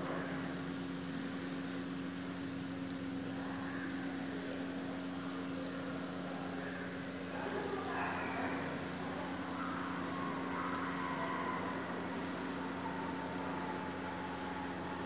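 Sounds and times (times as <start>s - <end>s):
low hum with two tones: 0.0s - 15.0s.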